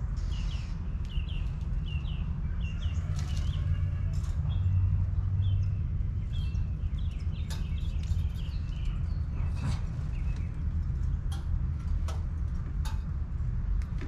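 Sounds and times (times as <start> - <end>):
steady low rumble: 0.0 - 14.0
birds chirping: 0.1 - 13.0.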